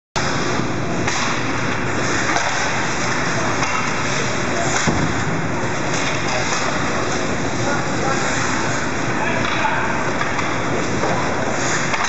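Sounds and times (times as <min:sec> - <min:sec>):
ice hockey game din: 0:00.2 - 0:12.0.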